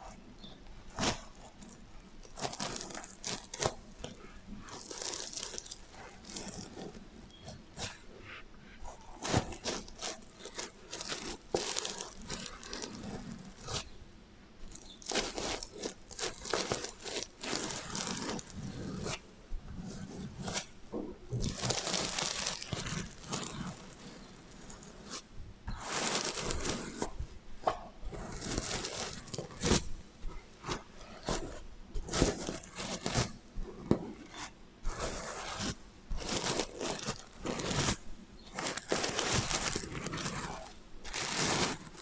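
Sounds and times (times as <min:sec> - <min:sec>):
fingers scratching sequins: 0:00.9 - 0:08.1, 0:08.8 - 0:14.0, 0:14.6 - 0:42.0.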